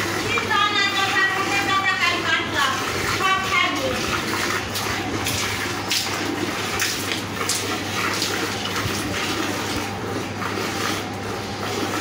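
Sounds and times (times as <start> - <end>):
milk squirting into metal bucket: 2.2 - 12.0.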